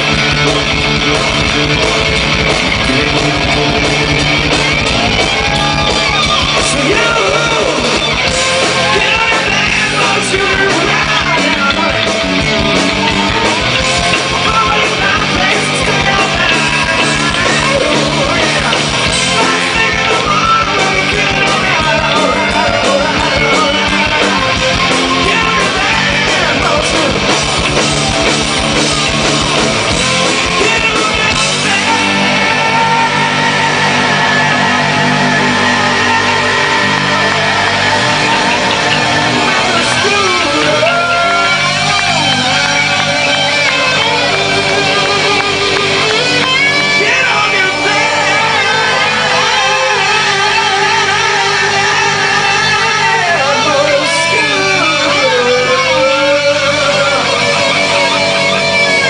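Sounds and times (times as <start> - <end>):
bass guitar: 0.0 - 59.0
drums: 0.0 - 59.0
electric guitar lead with bending notes: 0.0 - 59.0.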